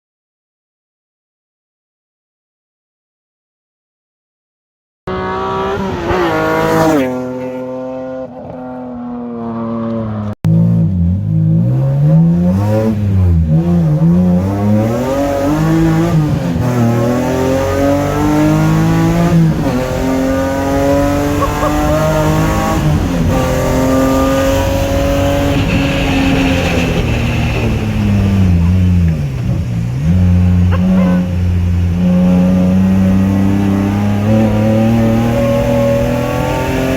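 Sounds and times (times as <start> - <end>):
race car engine revving through gears: 5.1 - 36.9.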